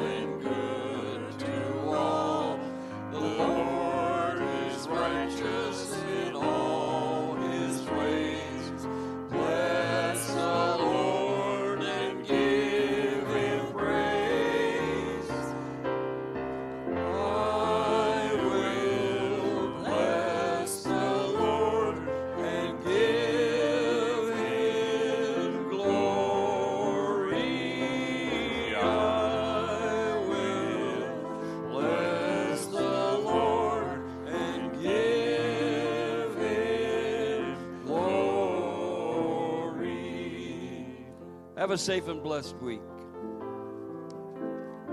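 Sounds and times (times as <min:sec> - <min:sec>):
church choir with accompaniment: 0:00.0 - 0:44.9.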